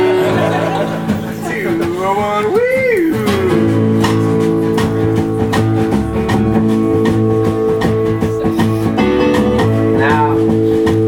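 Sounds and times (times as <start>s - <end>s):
drums keeping a steady beat: 0.0s - 11.0s
guitars strumming: 0.0s - 11.0s.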